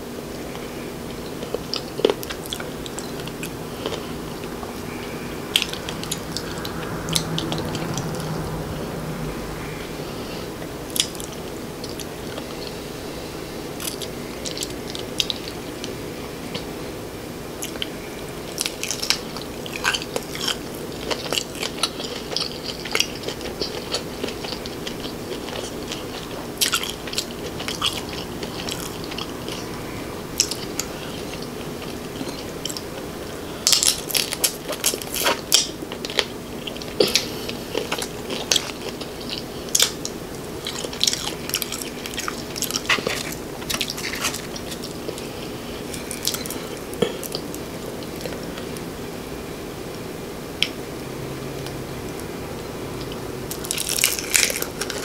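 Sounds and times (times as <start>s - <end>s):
crunching and chewing fried prawns: 0.4s - 16.8s, 17.6s - 48.8s, 53.0s - 55.0s.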